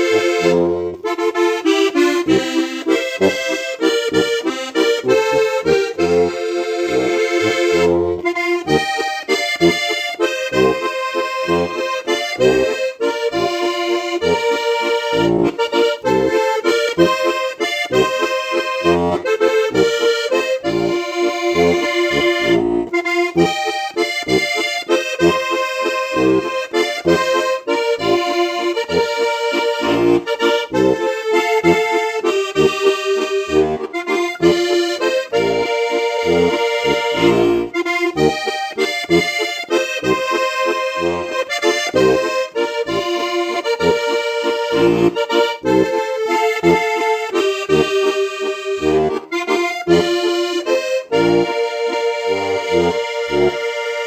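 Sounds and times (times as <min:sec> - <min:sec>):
button accordion folk tune: 0:00.0 - 0:54.0.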